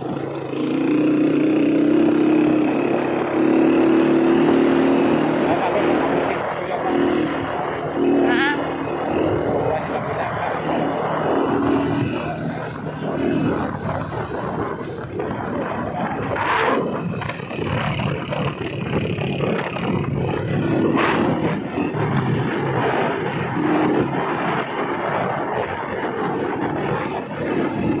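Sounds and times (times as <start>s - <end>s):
vehicle engine drone: 0.0s - 28.0s
wind rushing over microphone: 0.0s - 28.0s.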